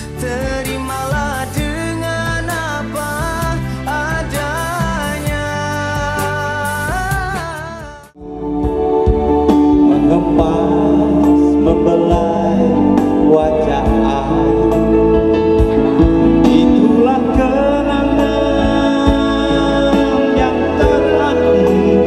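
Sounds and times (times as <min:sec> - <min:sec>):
man singing a ballad: 0:00.0 - 0:08.5, 0:09.5 - 0:22.0
live instrumental backing: 0:00.0 - 0:22.0.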